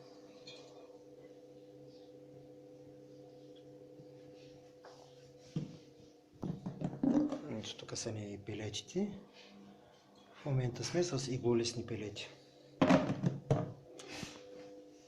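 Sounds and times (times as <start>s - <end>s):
stove fan humming: 0.0s - 15.0s.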